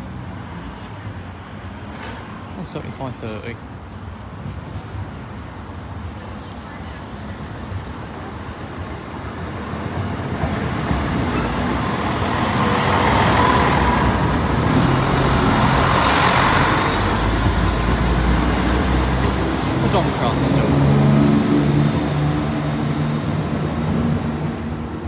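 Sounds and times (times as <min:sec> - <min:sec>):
train diesel engines running: 0:00.0 - 0:25.0
train wheels rolling on rails: 0:03.2 - 0:25.0.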